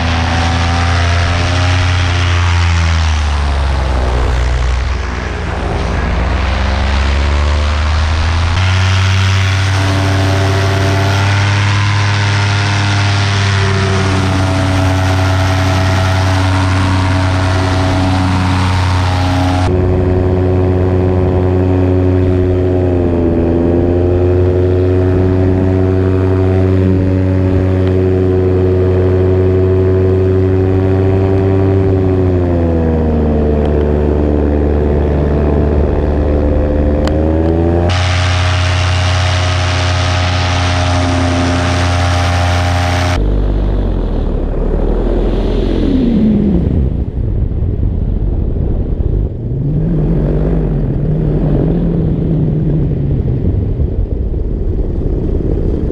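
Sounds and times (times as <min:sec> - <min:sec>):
low rumble: 0:00.0 - 0:55.9
paramotor engine and propeller: 0:00.0 - 0:55.9.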